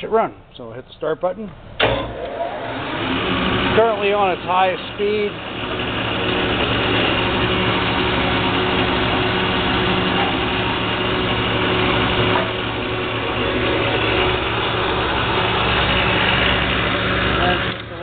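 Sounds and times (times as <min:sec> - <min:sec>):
bandsaw motor humming: 0:01.8 - 0:18.0
blade and pulleys whirring: 0:01.8 - 0:18.0.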